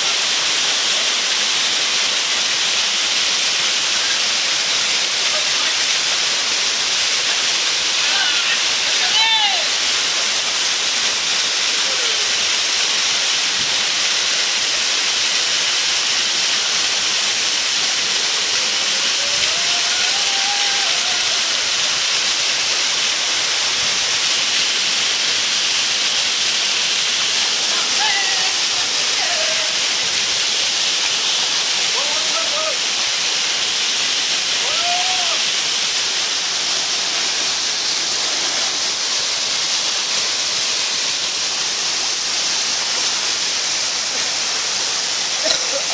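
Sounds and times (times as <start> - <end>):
waterfall rushing water: 0.0 - 45.9.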